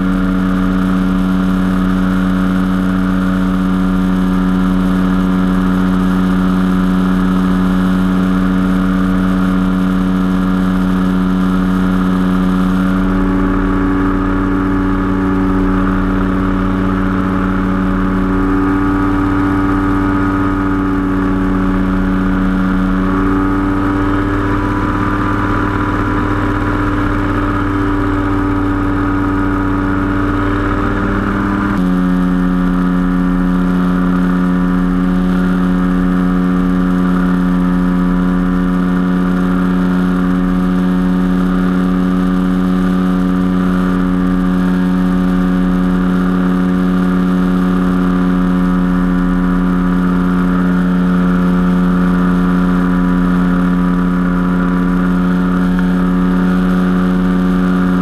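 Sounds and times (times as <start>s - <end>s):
engine and propeller running: 0.0s - 58.0s.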